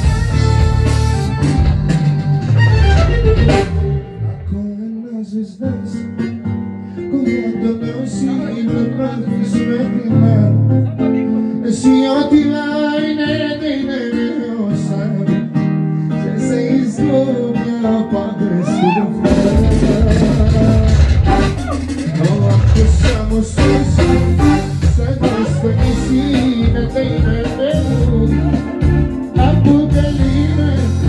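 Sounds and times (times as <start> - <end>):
live pop-folk band music: 0.0 - 31.0.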